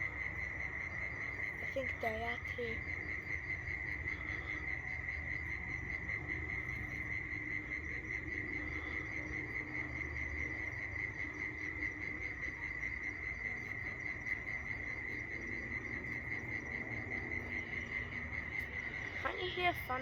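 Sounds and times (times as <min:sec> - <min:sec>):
faint low rumble: 0:00.0 - 0:20.0
insects trilling: 0:00.0 - 0:20.0.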